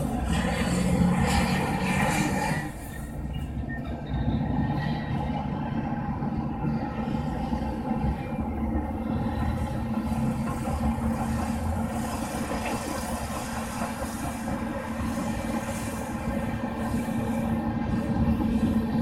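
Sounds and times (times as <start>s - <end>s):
heavy diesel engines rumbling: 0.0s - 19.0s.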